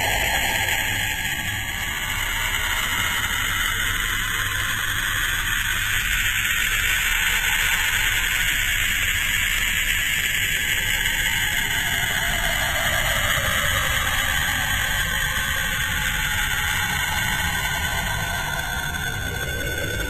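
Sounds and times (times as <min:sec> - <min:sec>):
eerie hiss: 0:00.0 - 0:20.0
low hum: 0:00.0 - 0:20.0.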